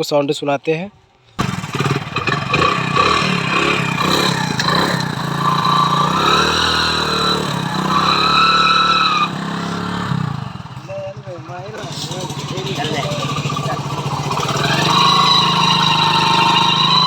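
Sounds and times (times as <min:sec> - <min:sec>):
motorcycle engine running: 0:01.4 - 0:17.0.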